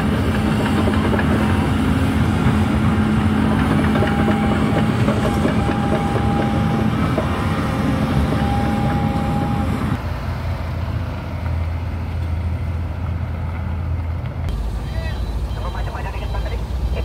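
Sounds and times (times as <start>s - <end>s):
excavator hum with high whine: 0.0s - 17.0s
heavy truck engine rumble: 0.0s - 17.0s.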